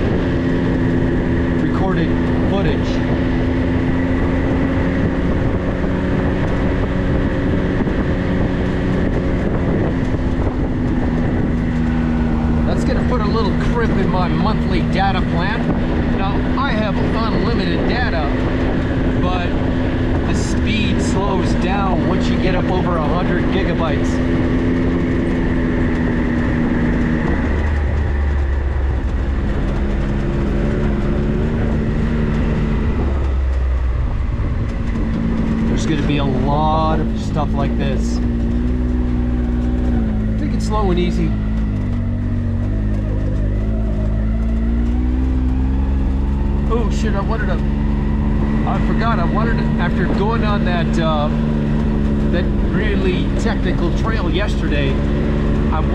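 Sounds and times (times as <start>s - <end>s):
low rumble of tyres: 0.0s - 55.9s
vehicle engine running steadily: 0.0s - 55.9s.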